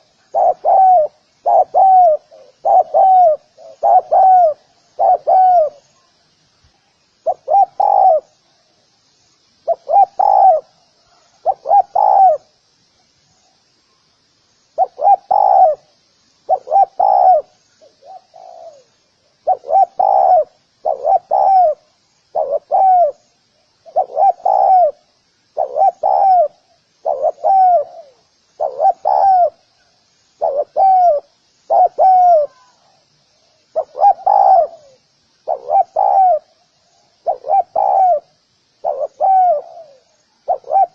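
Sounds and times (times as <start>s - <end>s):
dove cooing: 0.0s - 5.8s, 7.2s - 8.4s, 9.6s - 12.5s, 14.8s - 15.9s, 16.5s - 23.2s, 23.8s - 29.8s, 30.4s - 33.0s, 33.7s - 36.6s, 37.2s - 40.9s
faint high steady buzz: 0.0s - 40.9s.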